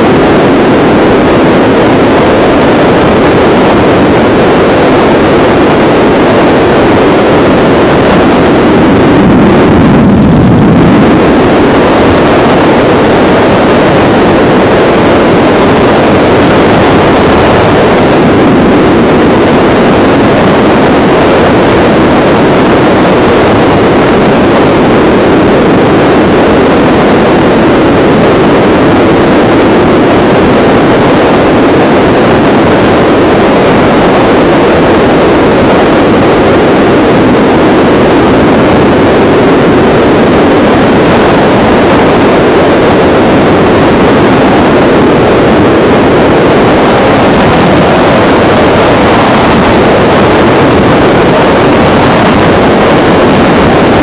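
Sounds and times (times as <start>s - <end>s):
helicopter engine and rotor noise: 0.7s - 51.5s.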